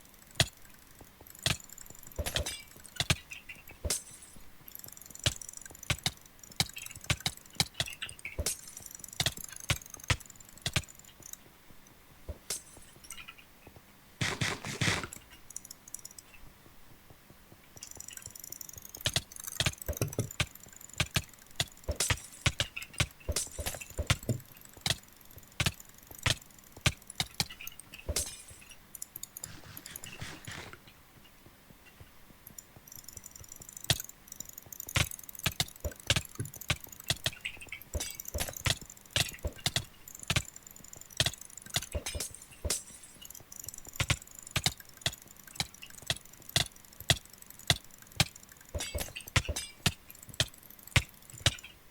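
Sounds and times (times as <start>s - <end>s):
computer mouse clicking: 0.0s - 11.5s, 14.2s - 16.4s, 17.7s - 30.9s, 32.0s - 51.9s.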